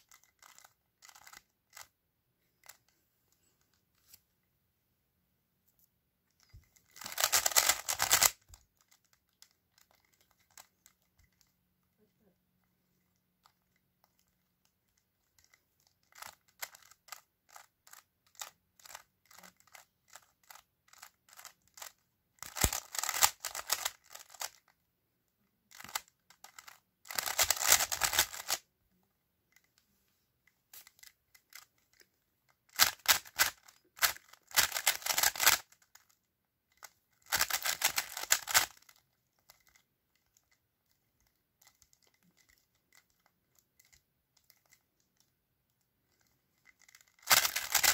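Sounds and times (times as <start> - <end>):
puzzle cube layers clicking: 0.0 - 2.0, 6.4 - 11.6, 13.5 - 24.7, 25.7 - 28.7, 30.8 - 47.9.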